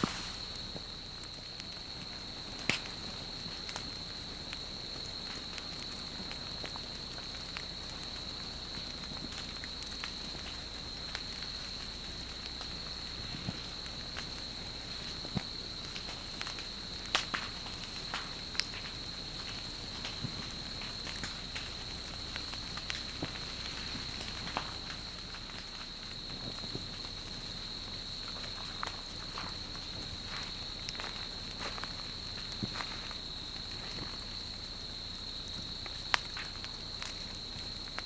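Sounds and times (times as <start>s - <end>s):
vegetation burning with crackles and pops: 0.0s - 38.0s.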